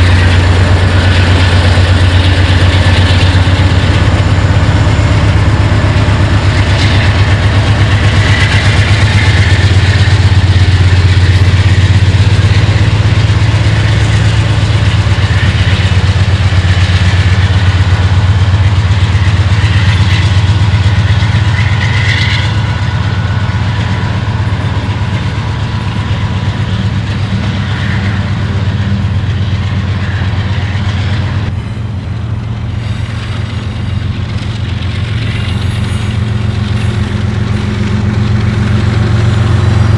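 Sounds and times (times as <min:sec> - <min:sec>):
diesel locomotive engines droning: 0:00.0 - 0:39.9
train wheels rumbling on rail: 0:00.0 - 0:39.9.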